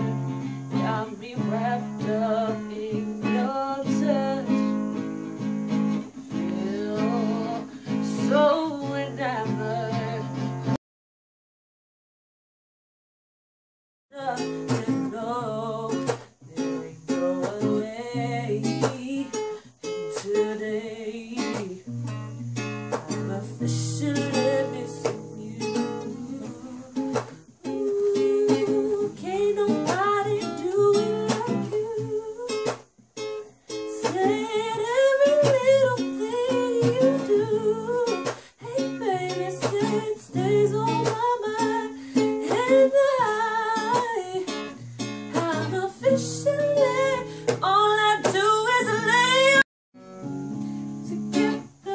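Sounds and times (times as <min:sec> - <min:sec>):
girl singing: 0:00.0 - 0:05.0, 0:06.3 - 0:10.8, 0:14.1 - 0:21.9, 0:23.0 - 0:32.8, 0:33.9 - 0:49.7, 0:51.0 - 0:51.9.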